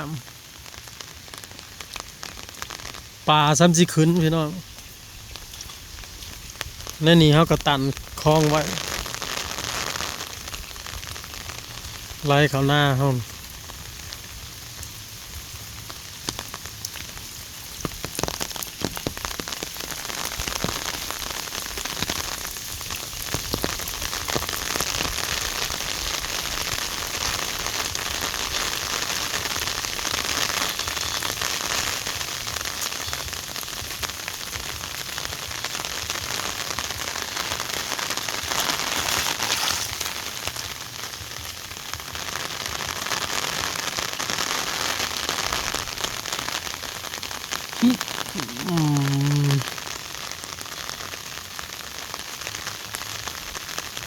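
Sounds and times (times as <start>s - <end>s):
heavy rain hissing: 0.0s - 54.0s
rain drop ticks: 0.0s - 54.0s.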